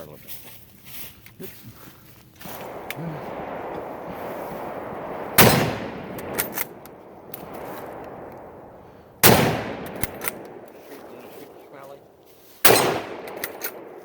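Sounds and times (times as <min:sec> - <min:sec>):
faint sharp cracks: 0:02.4 - 0:14.0
rifle shots echoing: 0:02.5 - 0:14.0.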